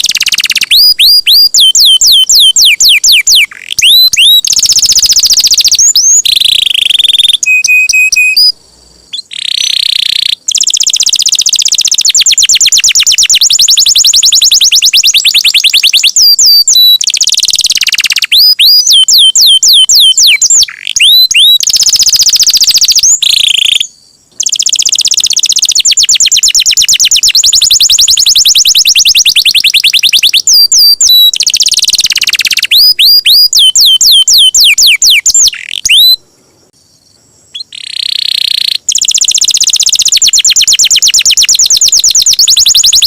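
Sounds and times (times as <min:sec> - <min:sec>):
canary singing trills: 0:00.0 - 0:36.3, 0:36.9 - 0:43.0.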